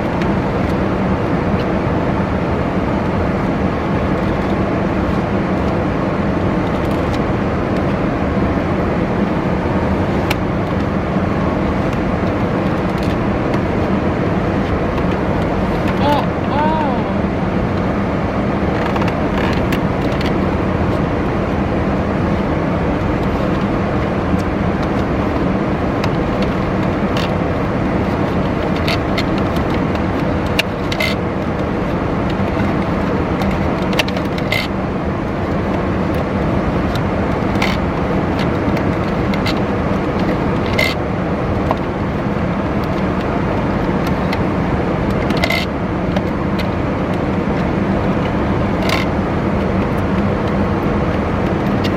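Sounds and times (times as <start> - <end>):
machine running hum: 0.0 - 51.9.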